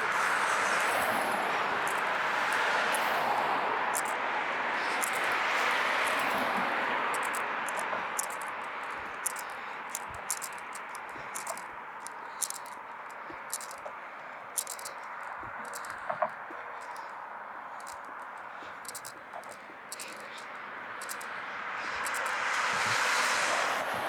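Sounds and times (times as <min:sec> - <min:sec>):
passing vehicle: 0:00.0 - 0:24.0.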